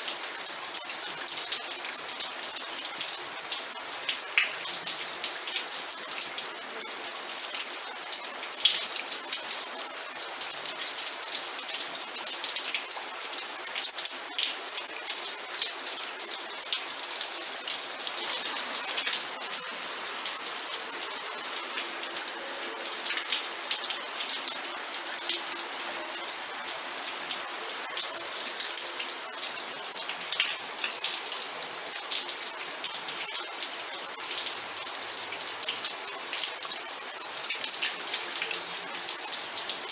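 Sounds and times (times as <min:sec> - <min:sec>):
raindrops pattering on hard surface: 0:00.1 - 0:39.9.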